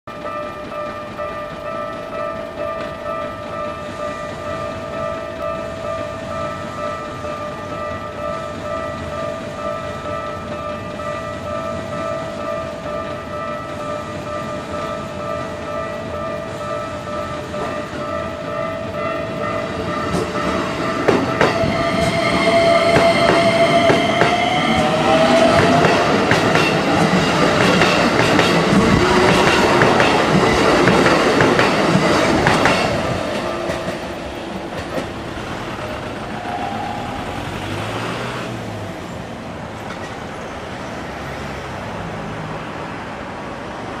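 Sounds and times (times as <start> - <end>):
level-crossing warning bell: 0.1 - 38.3
train wheels clacking on rail joints: 0.1 - 38.8
train whine: 0.1 - 42.0.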